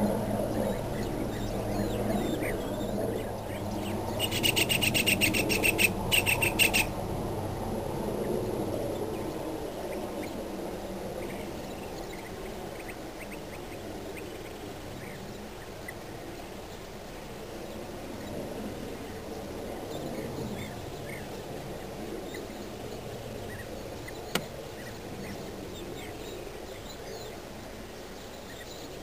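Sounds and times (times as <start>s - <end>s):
low outdoor background: 0.0s - 29.0s.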